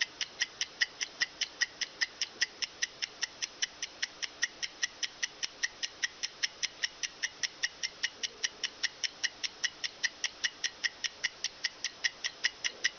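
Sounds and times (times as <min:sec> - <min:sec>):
mechanical stopwatch ticking: 0:00.0 - 0:12.9.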